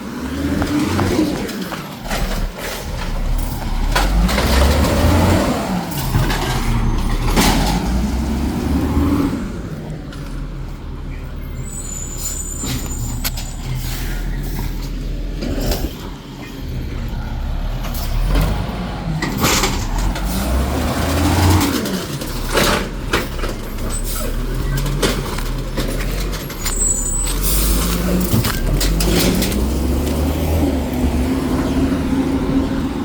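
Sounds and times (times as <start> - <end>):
truck diesel engine revving: 0.0 - 11.8, 12.9 - 33.0
metal clanks and bangs: 0.6 - 8.5, 12.1 - 31.2.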